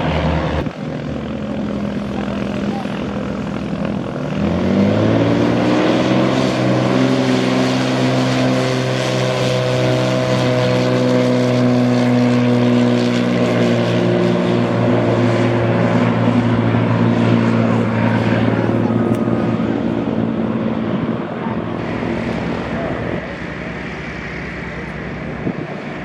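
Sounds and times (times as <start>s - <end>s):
propeller aircraft engine throttling up: 0.0s - 26.0s.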